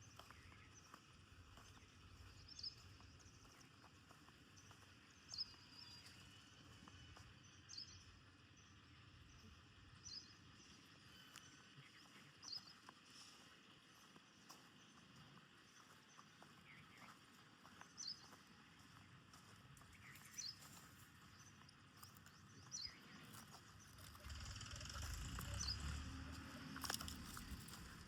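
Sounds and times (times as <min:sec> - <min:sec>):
bird chirping: 0:00.0 - 0:28.0
faint outdoor background: 0:00.0 - 0:28.0.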